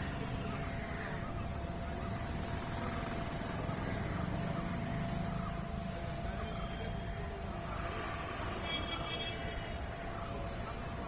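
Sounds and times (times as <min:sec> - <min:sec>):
faint constant tone: 0:00.0 - 0:11.0
traffic rumble: 0:00.0 - 0:11.0.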